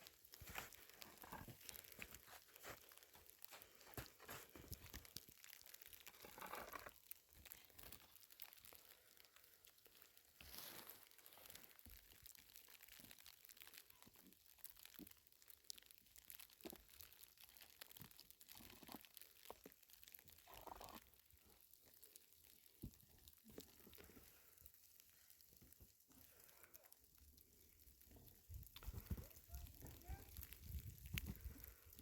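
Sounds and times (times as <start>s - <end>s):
faint crinkling and rustling: 0.0s - 32.0s.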